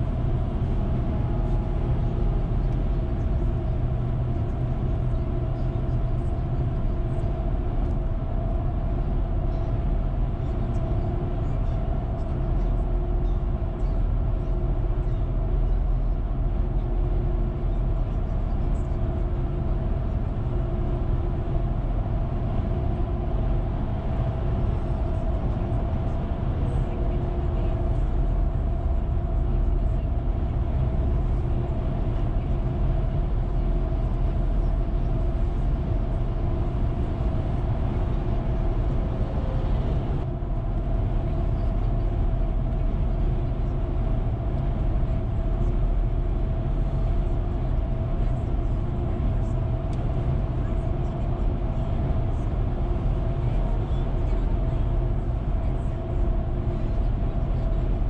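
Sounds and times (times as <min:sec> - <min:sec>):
faint steady hum: 0:00.0 - 0:58.0
tyres and engine rumble: 0:00.0 - 0:58.0.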